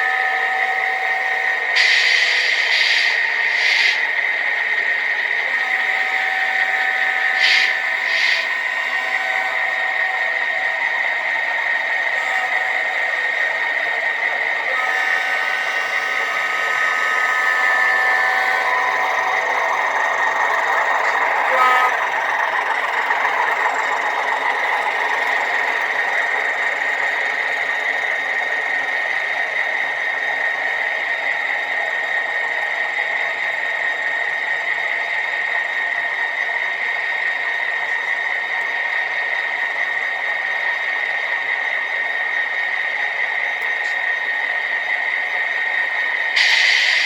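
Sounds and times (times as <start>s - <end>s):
model train whine: 0.0s - 47.0s
mechanical running noise: 0.1s - 47.0s.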